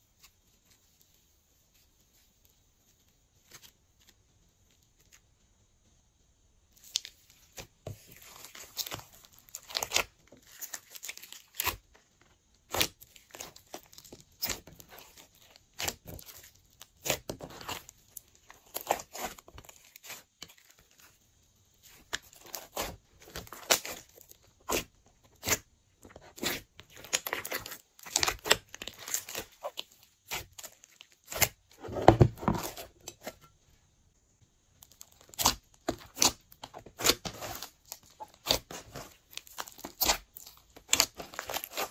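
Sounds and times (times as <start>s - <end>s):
hands kneading sticky slime: 6.7s - 33.4s, 34.7s - 41.9s.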